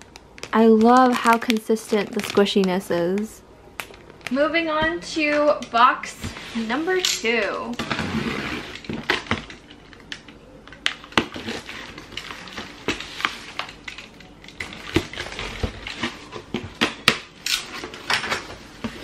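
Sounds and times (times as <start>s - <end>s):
tape crackling: 0.0s - 19.0s.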